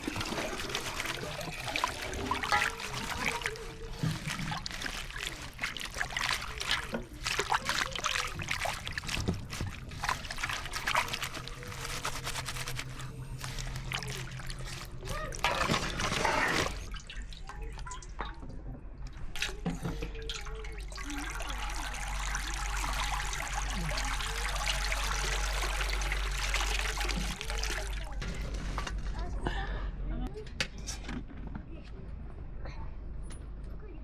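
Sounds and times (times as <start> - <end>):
water trickling and pouring: 0.0 - 18.2, 19.4 - 28.9.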